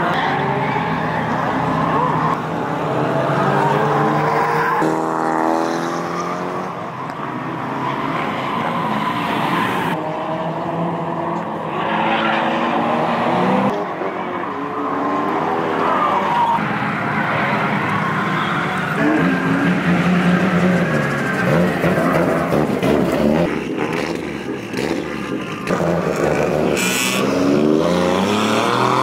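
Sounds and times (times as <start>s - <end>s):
tyres squealing and skidding: 0.0s - 2.4s, 6.2s - 10.0s, 11.4s - 29.0s
car engines revving: 0.0s - 29.0s.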